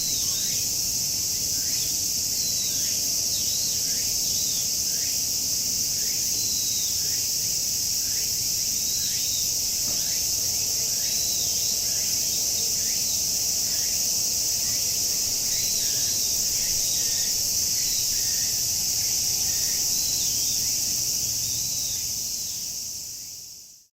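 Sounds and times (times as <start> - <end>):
cicadas droning in chorus: 0.0 - 23.9.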